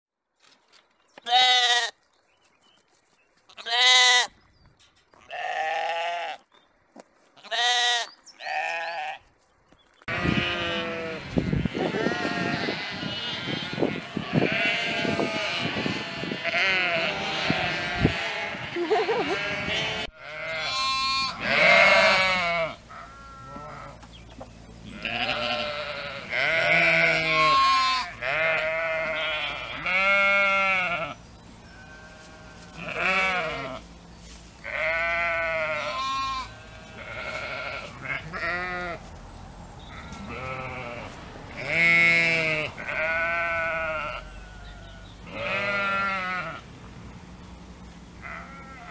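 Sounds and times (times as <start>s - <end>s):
sheep bleating: 1.3s - 2.0s, 3.5s - 4.3s, 5.2s - 6.5s, 7.4s - 9.3s, 10.1s - 24.0s, 24.8s - 33.9s, 34.6s - 39.1s, 39.9s - 46.6s, 48.2s - 48.9s.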